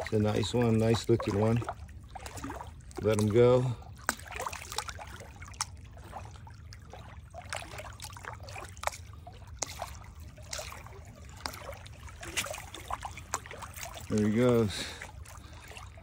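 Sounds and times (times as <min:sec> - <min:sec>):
small water splashes and drips: 0:00.0 - 0:16.0
water trickling and lapping: 0:00.0 - 0:16.0.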